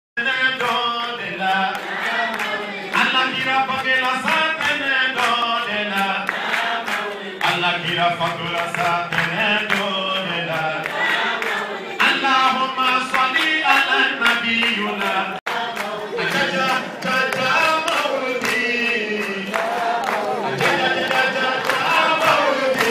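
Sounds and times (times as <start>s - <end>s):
congregation chanting: 0.2s - 22.9s.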